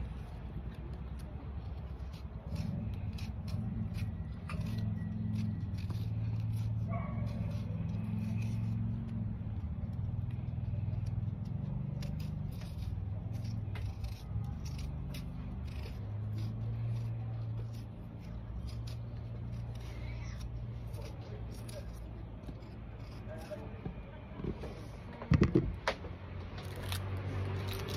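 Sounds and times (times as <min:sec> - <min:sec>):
knife scraping potato peel: 0:00.0 - 0:25.0, 0:26.5 - 0:27.9.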